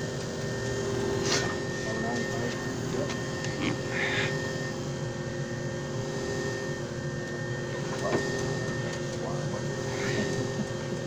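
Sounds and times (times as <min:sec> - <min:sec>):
machine motor hum and whir: 0:00.0 - 0:11.0.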